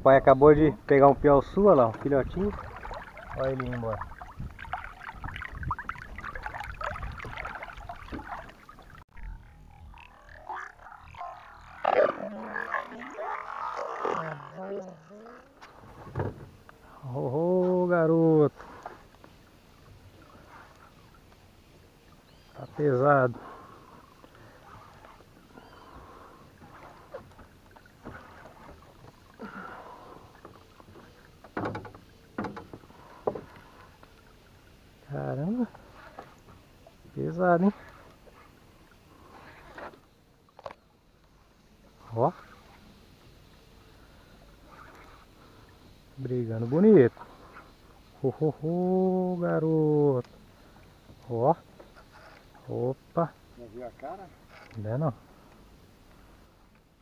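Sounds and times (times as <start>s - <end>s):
river water splashing and lapping: 0.0s - 57.0s.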